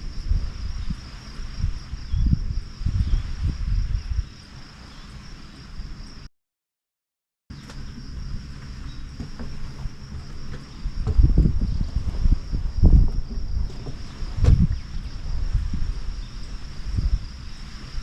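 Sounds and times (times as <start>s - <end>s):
wind rumbling on microphone: 0.0s - 6.3s, 7.5s - 18.0s.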